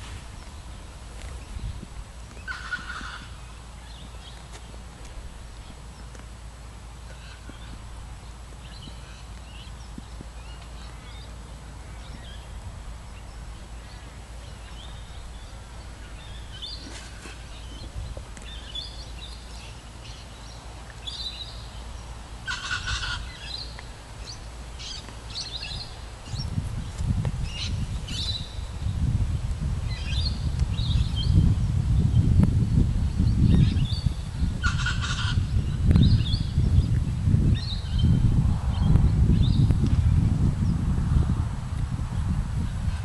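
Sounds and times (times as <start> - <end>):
steady low hum: 0.0 - 43.0
birds chirping and calling: 0.3 - 6.2, 7.0 - 29.2, 29.9 - 40.8.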